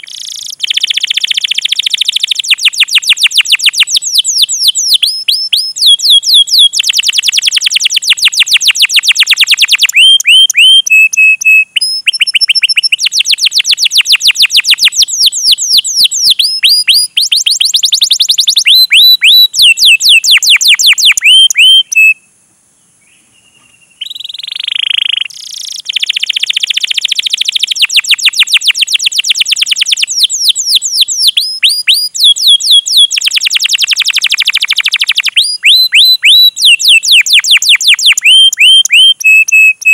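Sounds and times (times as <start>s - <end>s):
canary singing trills: 0.0s - 22.3s, 23.0s - 39.9s.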